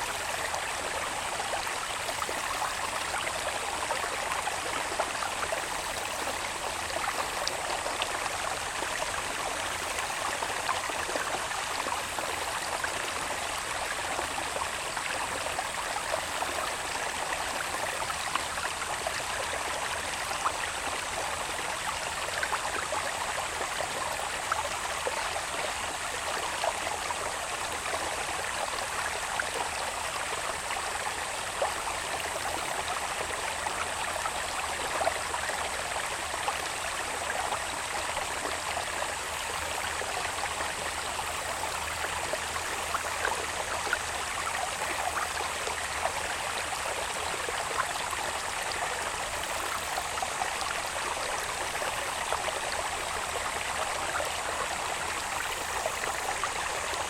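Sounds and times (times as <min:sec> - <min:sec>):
running water babbling: 0:00.0 - 0:57.0.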